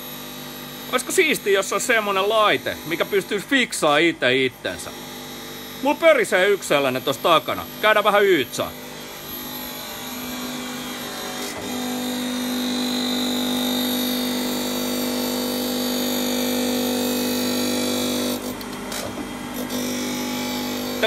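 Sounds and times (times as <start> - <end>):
surface grinder whining: 0.0 - 21.0.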